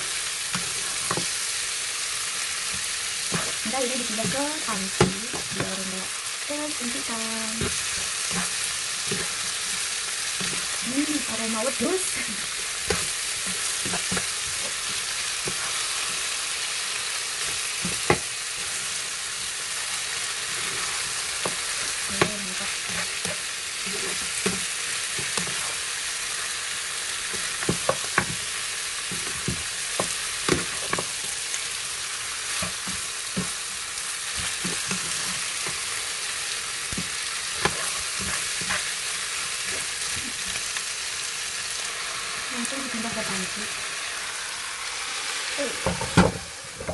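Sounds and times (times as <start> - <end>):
meat sizzling in a frying pan: 0.0 - 46.9
spatula scraping a pan: 0.1 - 1.6, 2.2 - 5.9, 6.8 - 31.5, 32.4 - 40.8.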